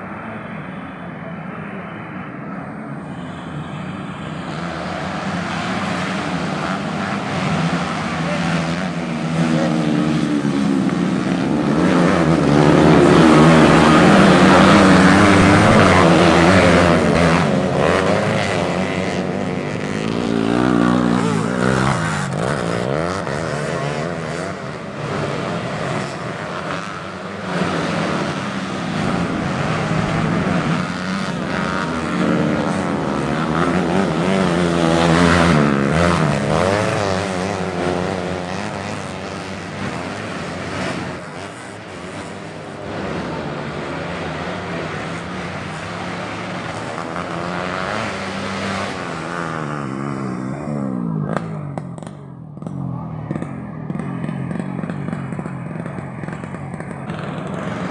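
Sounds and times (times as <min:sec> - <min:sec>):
motorcycle engines revving: 0:00.0 - 0:57.9.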